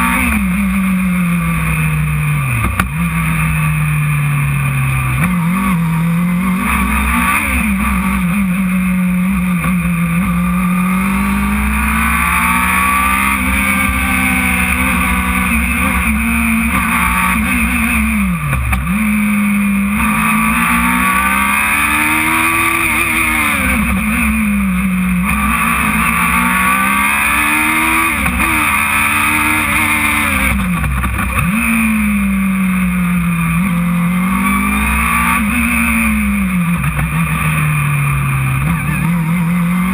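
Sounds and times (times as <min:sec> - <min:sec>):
racing car engine revving: 0:00.0 - 0:39.9
wind and road noise: 0:00.0 - 0:39.9.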